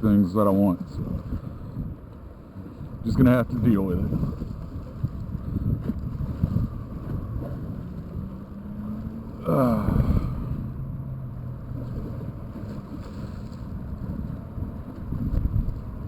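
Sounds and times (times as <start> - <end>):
low steady hum: 0.0 - 16.0
wind buffeting microphone: 0.0 - 16.0.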